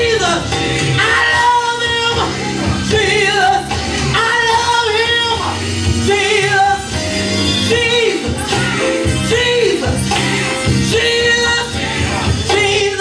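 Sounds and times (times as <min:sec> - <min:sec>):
instrumental accompaniment: 0:00.0 - 0:13.0
woman singing into microphone: 0:00.0 - 0:13.0.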